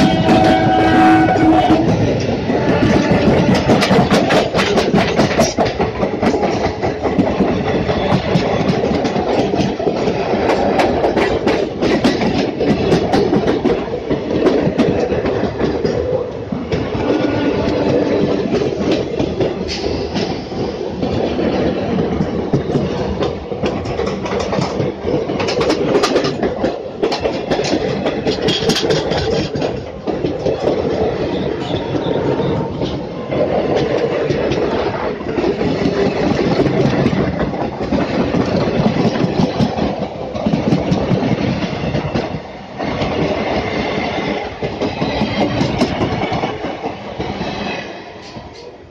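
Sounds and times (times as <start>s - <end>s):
train wheels knocking on rail joints: 0.0s - 48.7s
train rumble: 0.0s - 48.9s.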